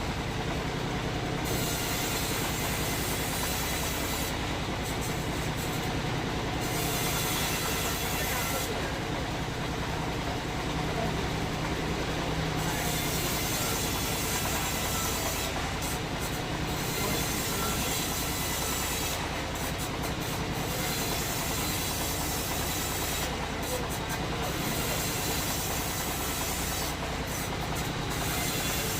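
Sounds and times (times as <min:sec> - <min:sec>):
sawmill machinery rumbling: 0:00.0 - 0:28.9.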